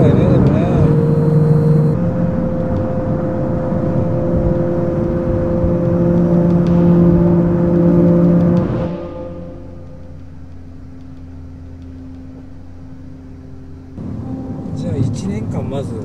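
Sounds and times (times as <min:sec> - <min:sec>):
car engine and road noise: 0:00.0 - 0:16.0
droning tones: 0:00.0 - 0:16.0.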